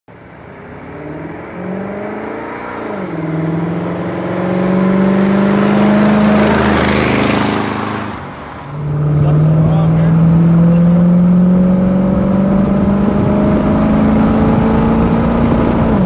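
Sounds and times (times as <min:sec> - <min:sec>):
road and wind noise: 0:00.1 - 0:16.0
car engine accelerating: 0:00.2 - 0:16.0.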